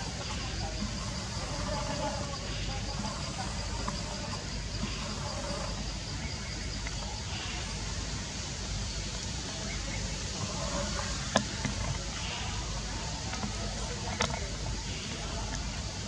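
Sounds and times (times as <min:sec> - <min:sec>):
faint indistinct voices: 0:00.0 - 0:16.0.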